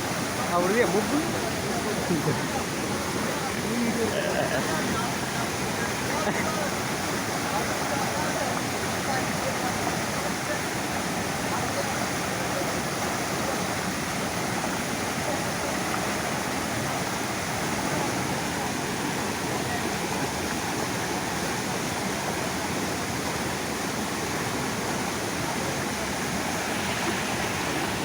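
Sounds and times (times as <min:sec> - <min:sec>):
waterfall pouring over rocks: 0:00.0 - 0:28.0.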